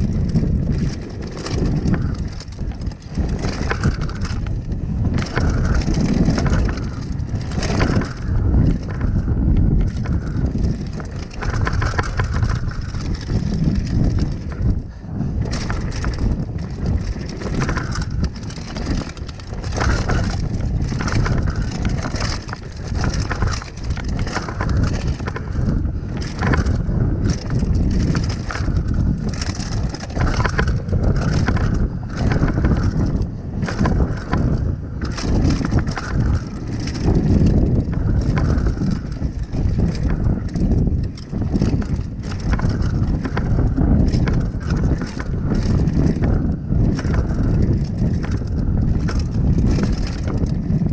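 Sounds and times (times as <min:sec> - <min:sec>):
bike rattling over bumps: 0:00.0 - 0:50.9.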